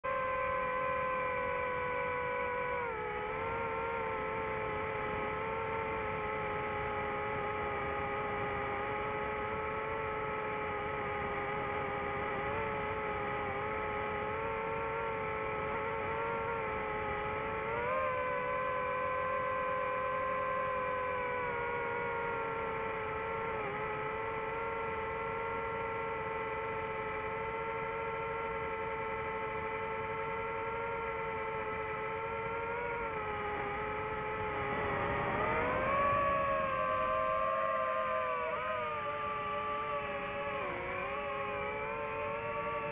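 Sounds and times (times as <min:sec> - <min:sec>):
drone propellers whining: 0:00.0 - 0:42.9.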